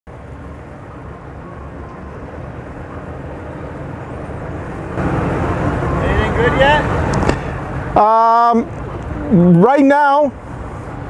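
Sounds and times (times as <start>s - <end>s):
low engine drone: 0.1s - 9.5s.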